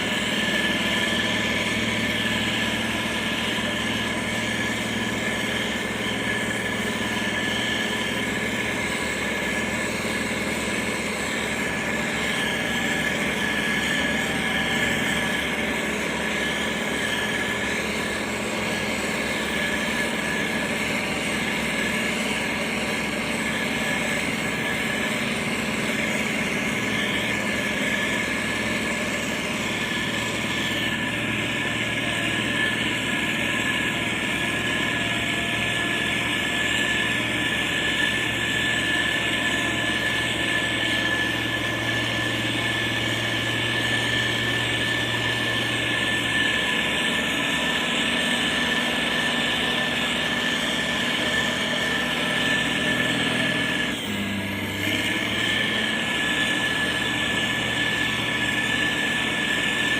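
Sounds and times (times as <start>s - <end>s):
diesel engine running: 0.0s - 59.9s
high whine: 0.0s - 59.9s.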